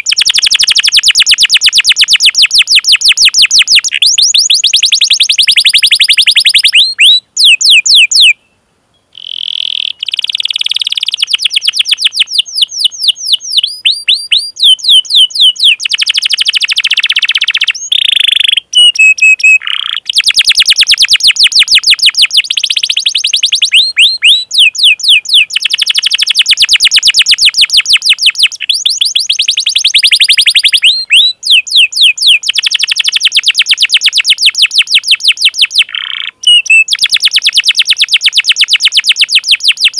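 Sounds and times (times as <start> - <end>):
canary trilling: 0.0 - 8.4, 9.2 - 39.9.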